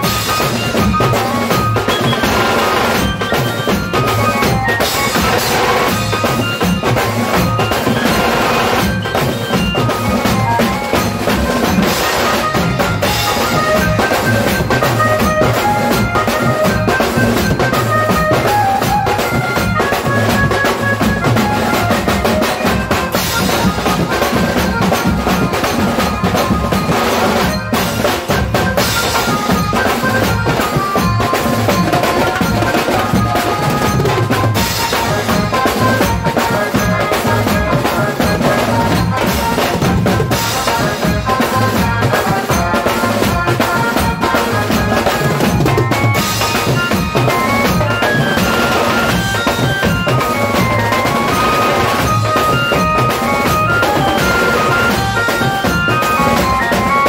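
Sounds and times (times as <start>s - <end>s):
music with steady drumming: 0.0s - 57.0s.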